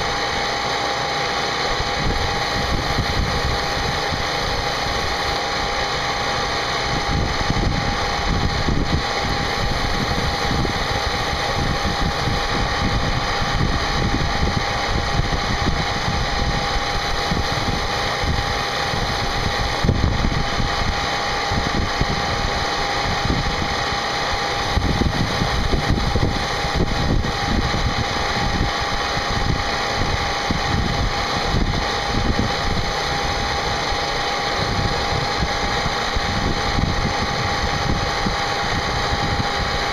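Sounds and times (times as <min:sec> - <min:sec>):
rough machining noise: 0:00.0 - 0:39.9.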